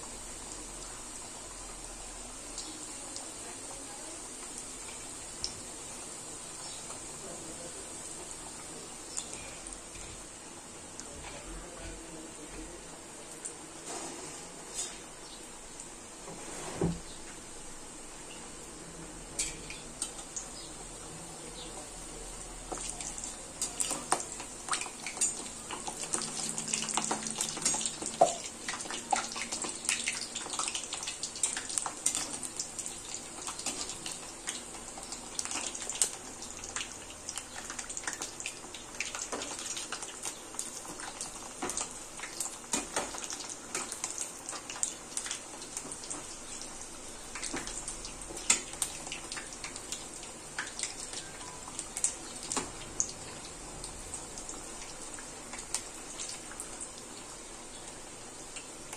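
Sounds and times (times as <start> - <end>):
deep-frying sizzle with pops: 0.0 - 58.9.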